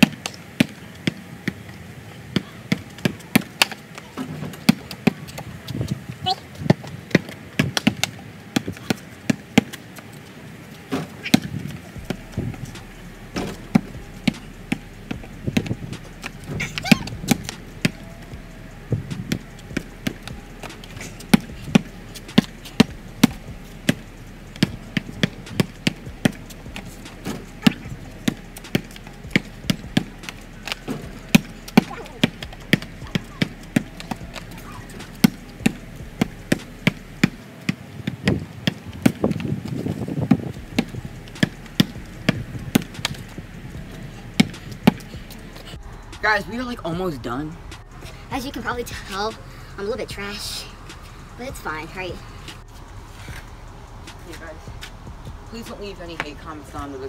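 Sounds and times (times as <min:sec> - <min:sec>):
basketball bouncing on pavement: 0:00.0 - 0:57.0.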